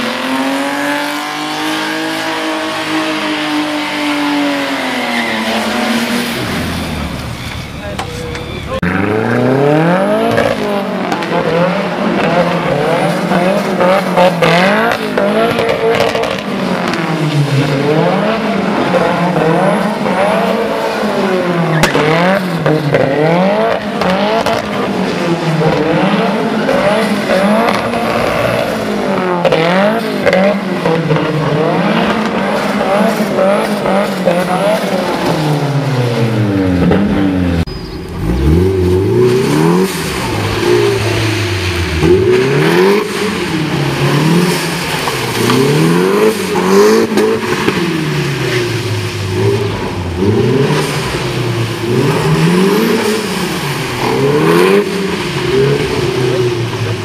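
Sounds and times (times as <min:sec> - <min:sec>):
another car engine revving: 0:00.0 - 0:57.0
car engine revving: 0:00.0 - 0:57.0.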